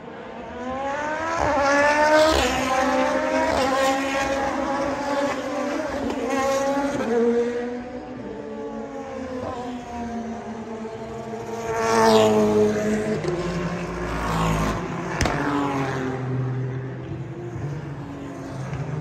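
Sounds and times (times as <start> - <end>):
race cars passing: 0.0 - 19.0.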